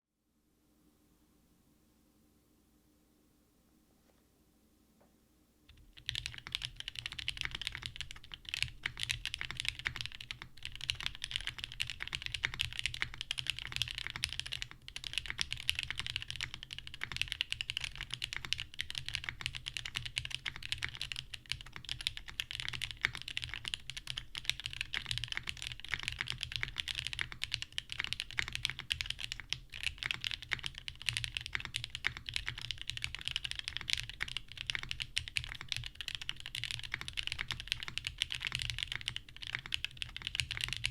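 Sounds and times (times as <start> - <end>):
fast typing on mechanical keyboard: 5.7 - 40.9.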